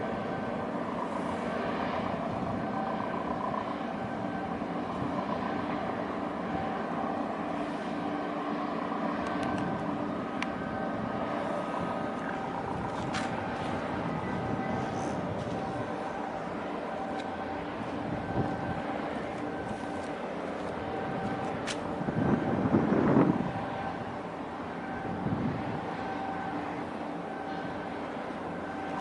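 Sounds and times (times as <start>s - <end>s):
engine drone: 0.0s - 29.0s
faint hum tones: 0.0s - 29.0s.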